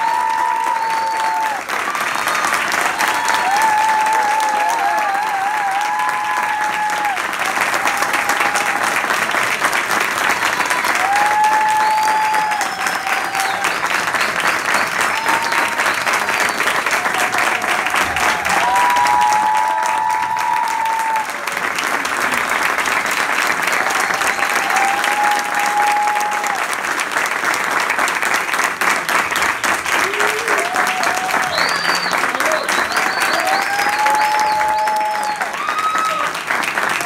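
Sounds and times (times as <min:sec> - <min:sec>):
voices cheering: 0:00.0 - 0:09.2, 0:10.2 - 0:21.6, 0:23.6 - 0:26.8, 0:30.0 - 0:37.0
audience applauding: 0:00.0 - 0:37.0.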